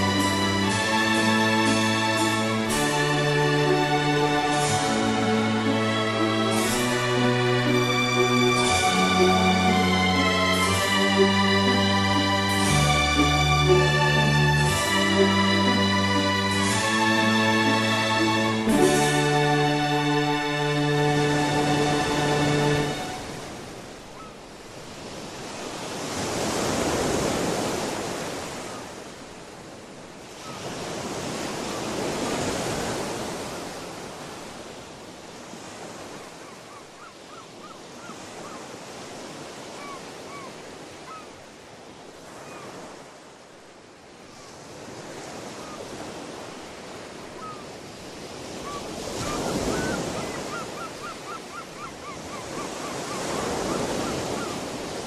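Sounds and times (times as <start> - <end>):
ocean waves washing ashore: 0.0 - 55.0.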